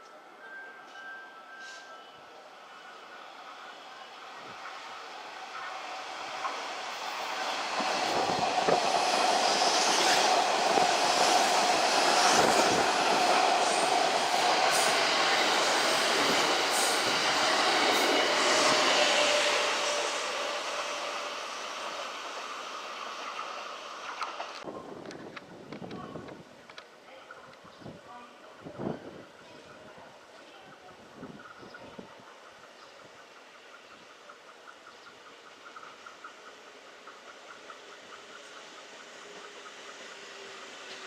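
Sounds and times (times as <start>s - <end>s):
electric train passing: 0.0s - 27.6s, 28.3s - 41.0s.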